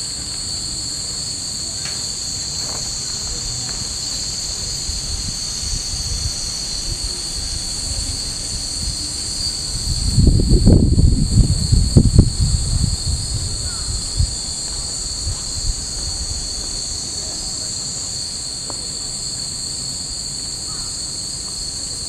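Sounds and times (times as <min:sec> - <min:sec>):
cicadas chorus: 0:00.0 - 0:22.0.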